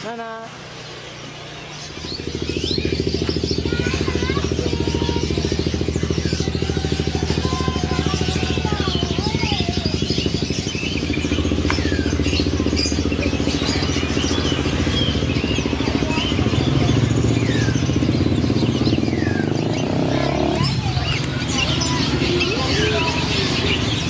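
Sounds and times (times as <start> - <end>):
engine running with pulsing beat: 0.0 - 24.0
small birds chirping and whistling: 0.0 - 24.0.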